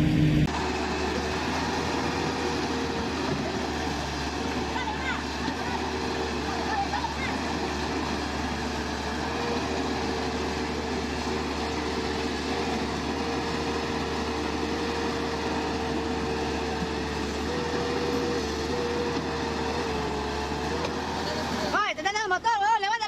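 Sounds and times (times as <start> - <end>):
heavy equipment engine whining: 0.0 - 23.0.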